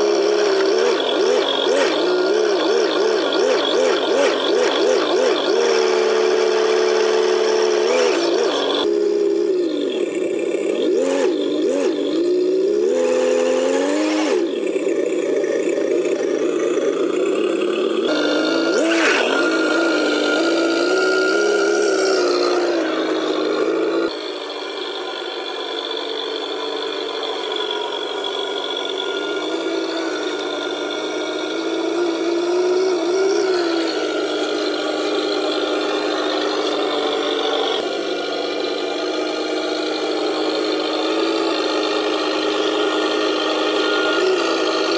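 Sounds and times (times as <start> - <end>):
simulated diesel engine sound: 0.0 - 44.9.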